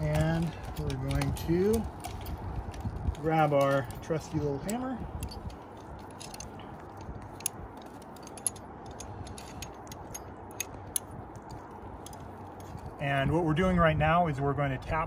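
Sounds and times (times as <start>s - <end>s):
metal hardware clinking: 0.0s - 13.0s.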